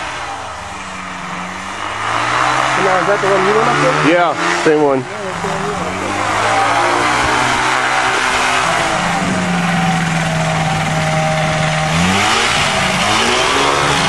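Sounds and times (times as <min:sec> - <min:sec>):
propeller plane engine revving: 0:00.0 - 0:14.0.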